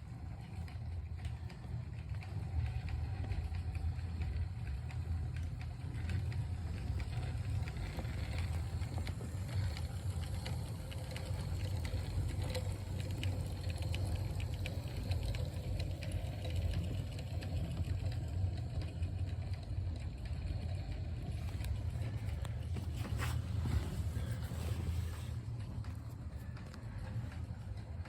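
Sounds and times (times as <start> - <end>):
model train motor hum: 0.0 - 28.0.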